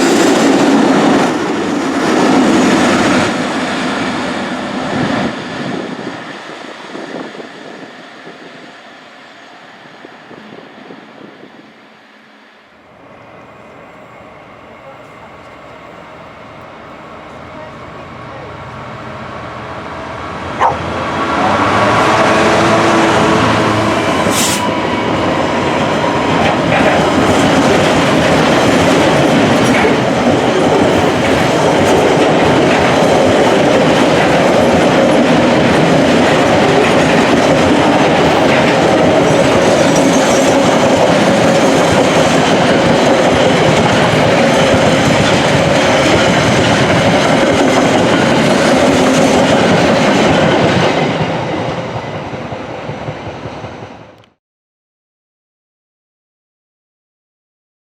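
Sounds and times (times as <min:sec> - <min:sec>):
train wheels rushing on rails: 0:00.0 - 0:54.2.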